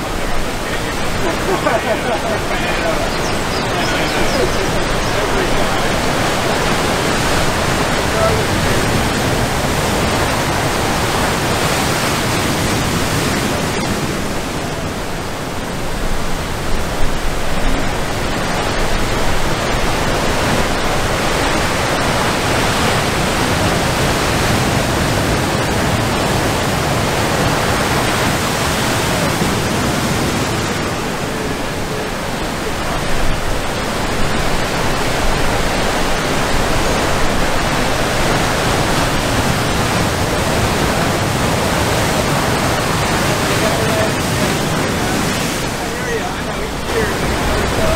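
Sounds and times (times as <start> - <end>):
ocean surf breaking: 0.0 - 47.9.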